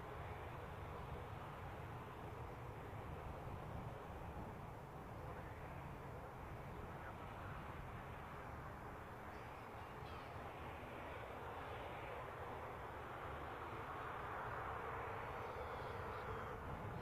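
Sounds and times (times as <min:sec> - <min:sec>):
distant jet engines: 0:00.0 - 0:17.0.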